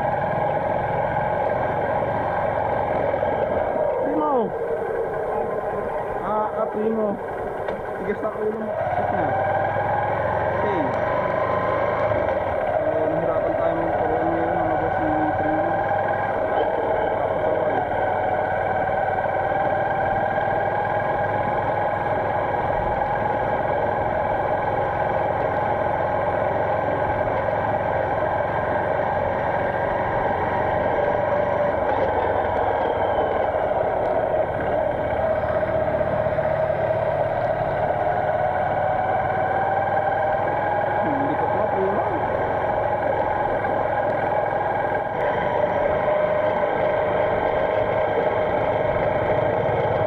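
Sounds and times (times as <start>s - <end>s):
motorcycle engine drone: 0.0s - 50.0s.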